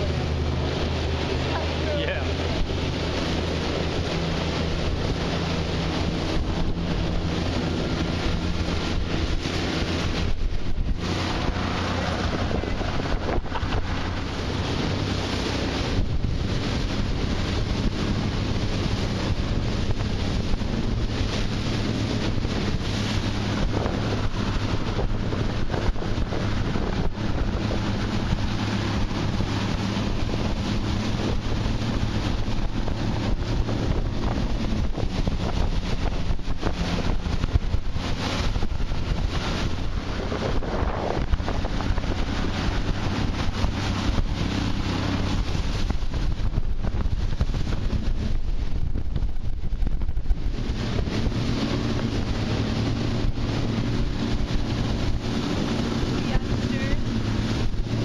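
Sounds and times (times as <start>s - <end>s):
outboard motor drone: 0.0s - 58.0s
rushing water: 0.0s - 58.0s
wind buffeting microphone: 0.0s - 58.0s.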